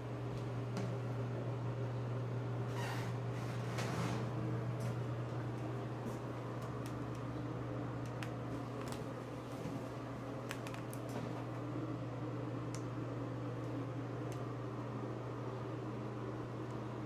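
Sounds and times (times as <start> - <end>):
low hum with hiss: 0.0 - 17.0.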